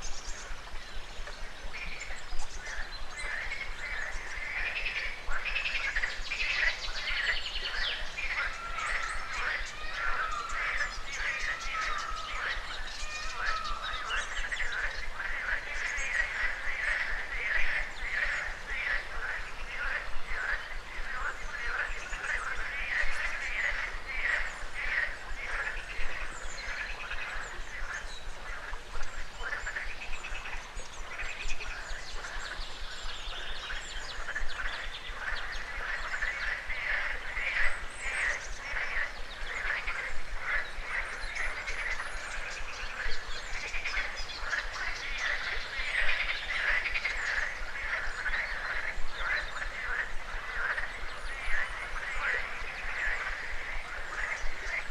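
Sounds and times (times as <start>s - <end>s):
birds chirping: 0.0s - 54.9s
frogs croaking: 0.0s - 54.9s.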